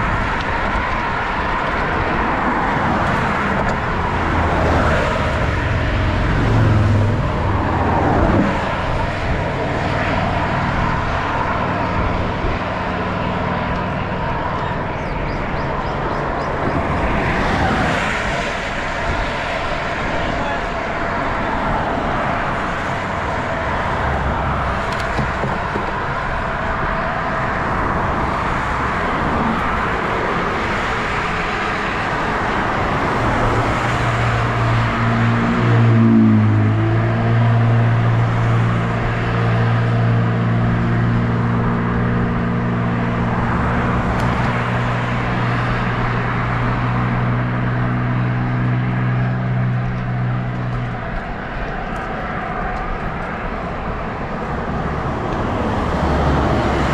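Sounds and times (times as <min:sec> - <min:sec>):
road traffic noise: 0:00.0 - 0:56.9
vehicle engine hum: 0:00.0 - 0:56.9.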